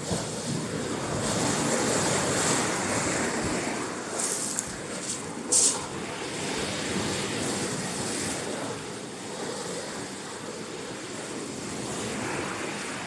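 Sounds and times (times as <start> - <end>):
waves washing over rocks: 0.0 - 13.0.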